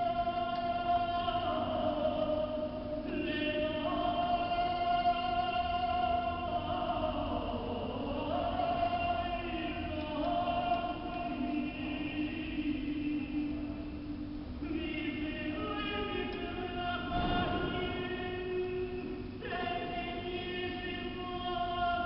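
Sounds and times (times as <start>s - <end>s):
person singing long sliding notes: 0.0s - 13.8s, 14.6s - 22.0s.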